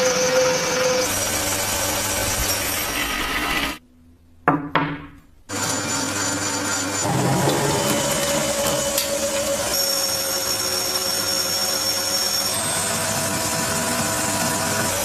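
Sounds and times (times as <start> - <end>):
power tool grinding metal: 0.0 - 3.8, 5.5 - 15.0.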